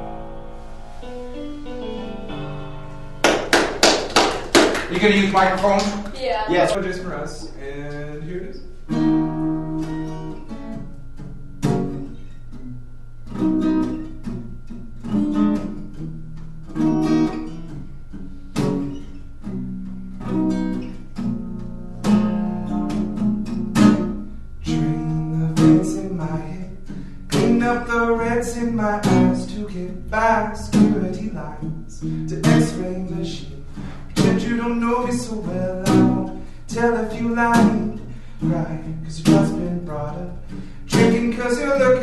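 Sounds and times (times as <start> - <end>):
acoustic guitar strummed chords: 0.0 - 42.0.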